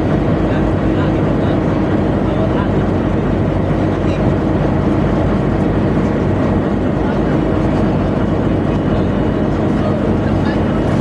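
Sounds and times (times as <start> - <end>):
tugboat machinery low hum: 0.0 - 11.0.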